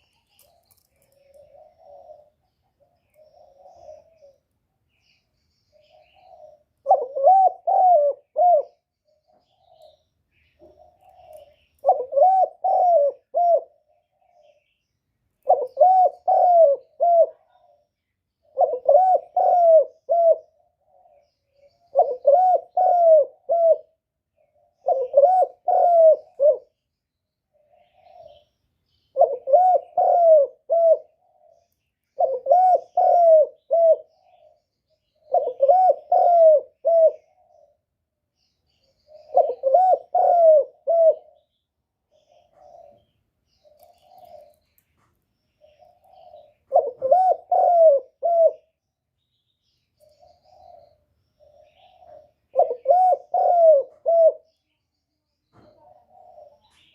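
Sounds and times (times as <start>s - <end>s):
dove cooing: 0.0s - 4.5s, 5.7s - 14.7s, 15.4s - 26.8s, 27.5s - 37.9s, 38.9s - 44.8s, 45.6s - 48.8s, 50.0s - 54.7s, 55.5s - 56.9s.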